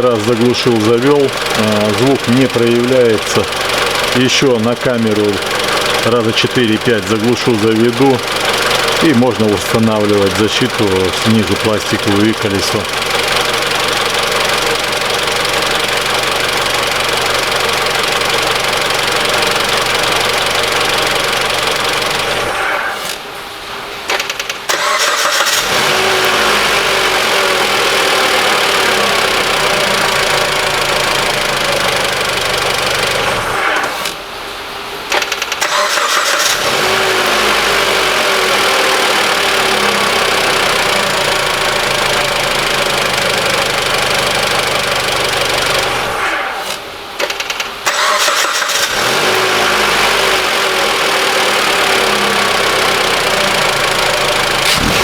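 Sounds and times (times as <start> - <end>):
car engine starting and idling: 0.0 - 23.3, 24.0 - 34.4, 35.1 - 55.0.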